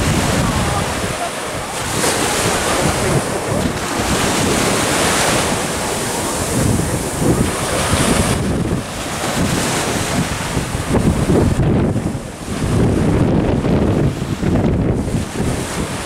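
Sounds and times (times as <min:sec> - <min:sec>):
waves washing onto beach: 0:00.0 - 0:16.0
wind buffeting microphone: 0:00.0 - 0:16.0.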